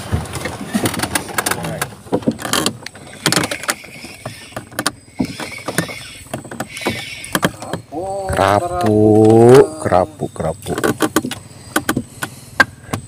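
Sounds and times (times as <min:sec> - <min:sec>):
knocks and scraping on a boat: 0:00.0 - 0:13.0.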